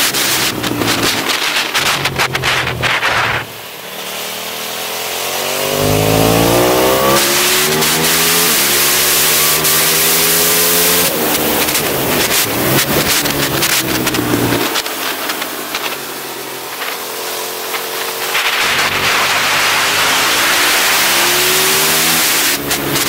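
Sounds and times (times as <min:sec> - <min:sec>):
engine crackling on deceleration: 0:00.0 - 0:23.0
motorcycle engine accelerating: 0:00.0 - 0:23.0.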